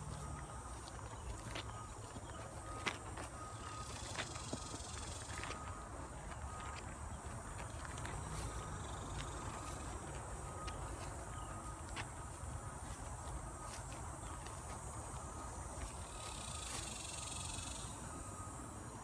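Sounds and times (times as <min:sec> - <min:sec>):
footsteps in dry grass: 0:00.0 - 0:18.0
insects trilling: 0:00.0 - 0:19.0.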